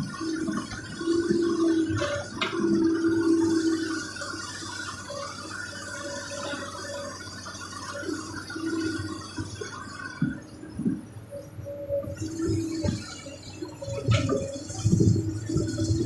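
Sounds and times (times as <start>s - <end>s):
excavator engine and hydraulics: 0.0s - 16.0s.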